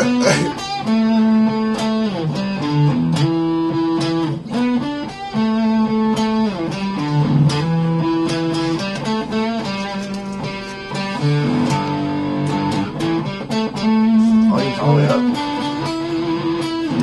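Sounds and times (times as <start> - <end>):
electric guitar riff with slides: 0.0 - 17.0.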